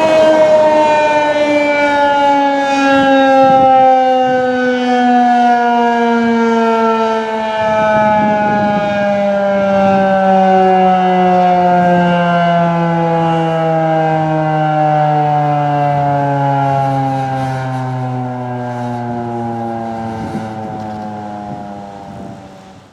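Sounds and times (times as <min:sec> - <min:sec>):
warning siren winding down: 0:00.0 - 0:22.9.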